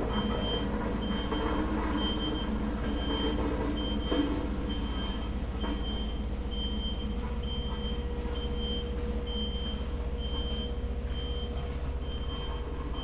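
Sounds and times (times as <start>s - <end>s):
reversing alarm beeps: 0.0s - 13.0s
road roller engine drone: 0.0s - 13.0s.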